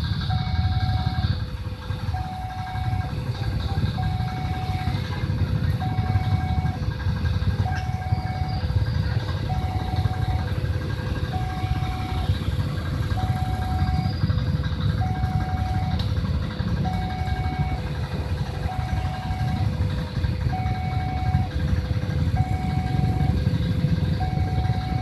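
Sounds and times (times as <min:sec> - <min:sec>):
two-tone crossing alarm: 0:00.0 - 0:25.0.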